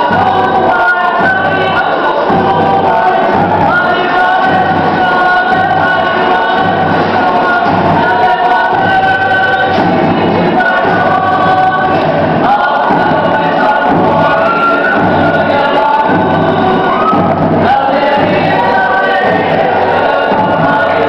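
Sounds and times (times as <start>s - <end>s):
group singing long notes: 0.0s - 21.0s.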